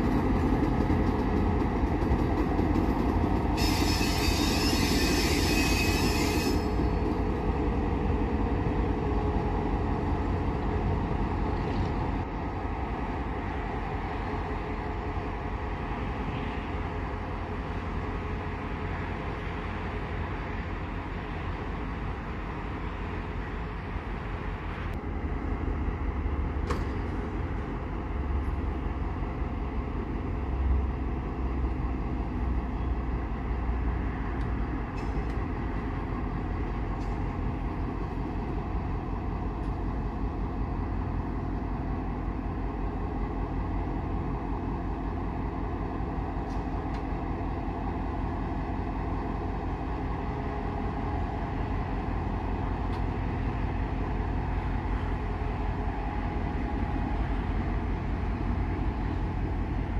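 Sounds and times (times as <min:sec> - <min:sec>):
diesel locomotive engine rumbling: 0:00.0 - 0:59.9.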